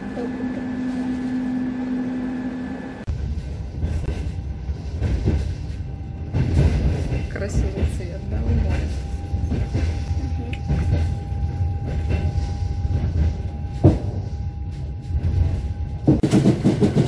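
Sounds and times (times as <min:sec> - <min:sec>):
thin steady whine: 0:00.0 - 0:16.2
train rumbling on rails: 0:00.0 - 0:17.0.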